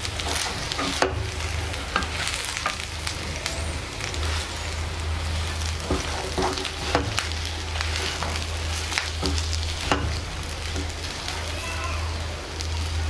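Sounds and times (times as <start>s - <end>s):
spatula scraping a pan: 0.0s - 11.5s
vegetables sizzling in oil: 0.0s - 13.0s.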